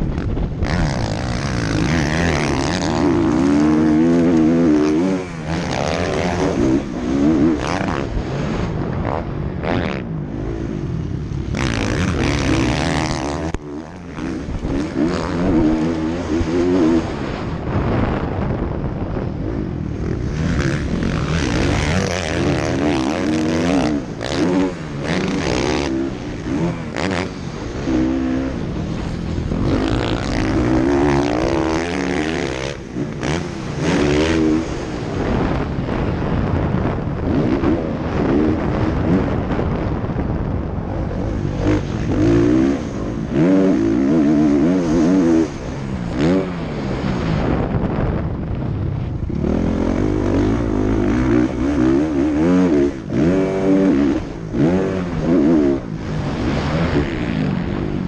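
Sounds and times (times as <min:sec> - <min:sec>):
motocross bike engine revving: 0:00.0 - 0:17.8, 0:19.2 - 0:40.2, 0:40.8 - 0:47.7, 0:49.2 - 0:58.0
wind rushing over microphone: 0:00.0 - 0:58.0.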